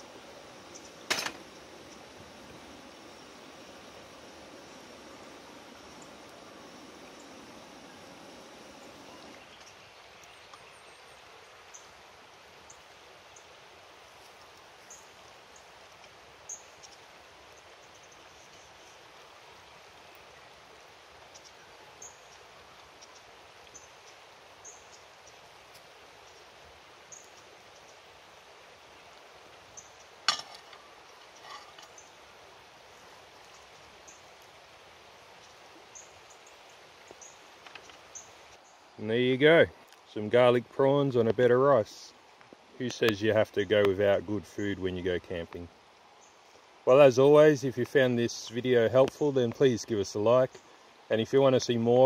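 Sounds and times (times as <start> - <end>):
faint outdoor hiss: 0.0 - 52.0.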